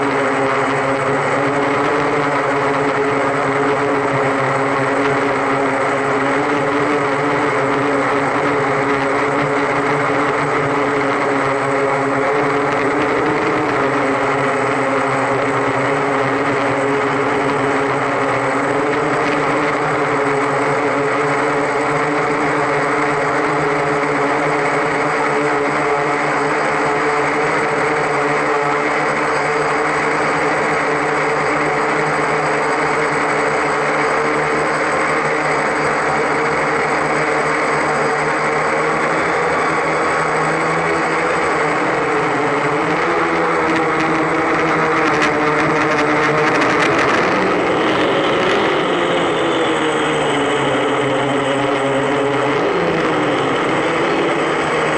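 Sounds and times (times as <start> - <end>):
drone motors humming: 0.0 - 54.9
propeller air rush: 0.0 - 54.9.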